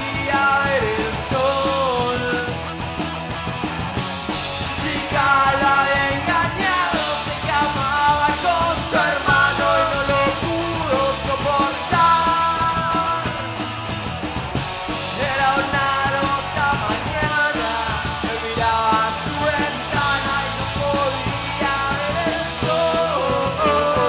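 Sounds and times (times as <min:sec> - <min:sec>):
man singing: 0:00.0 - 0:02.7, 0:04.7 - 0:13.5, 0:15.1 - 0:24.0
drum kit: 0:00.0 - 0:24.0
electric guitars: 0:00.0 - 0:24.0.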